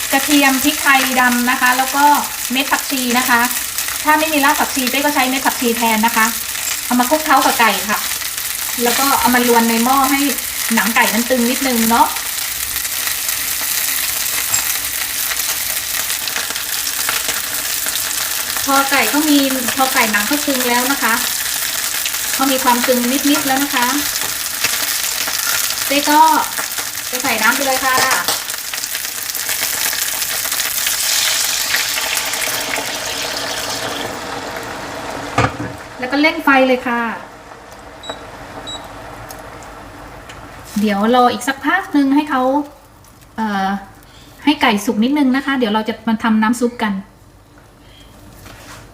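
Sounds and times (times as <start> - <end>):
chicken sizzling in a pot: 0.0 - 44.2.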